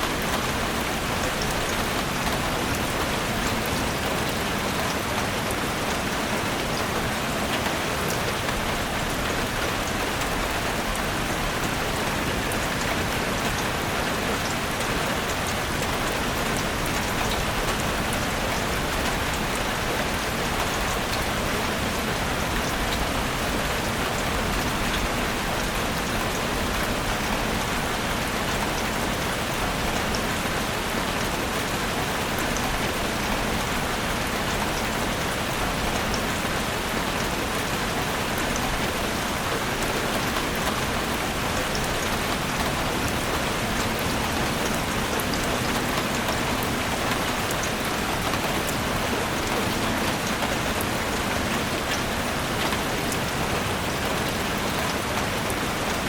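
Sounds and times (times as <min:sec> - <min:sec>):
rain pattering in a forest: 0:00.0 - 0:56.0.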